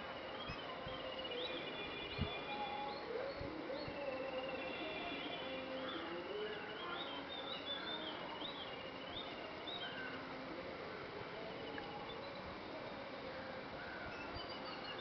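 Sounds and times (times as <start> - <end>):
birds singing: 0.0 - 15.0
outdoor background: 0.0 - 15.0.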